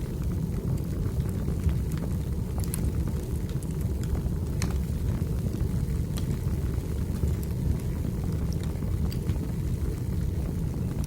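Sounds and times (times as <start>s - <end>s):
fire crackles: 0.0s - 11.0s
fire rumbling: 0.0s - 11.0s.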